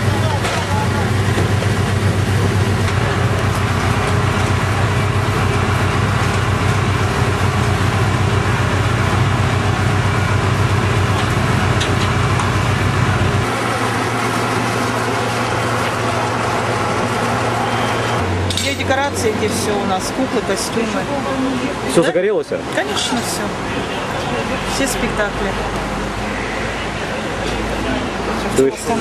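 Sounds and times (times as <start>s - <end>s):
fire engines running with low rumble: 0.0s - 29.0s
street noise: 0.0s - 29.0s.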